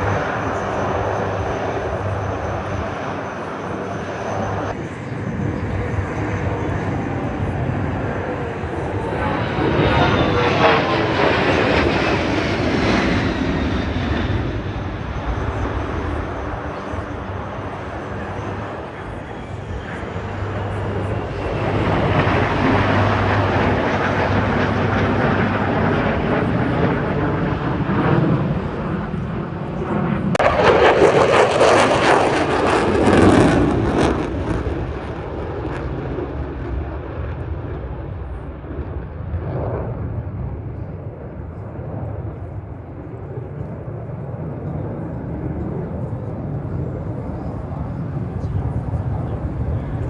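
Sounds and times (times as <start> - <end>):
aircraft flying past: 0.0 - 50.0.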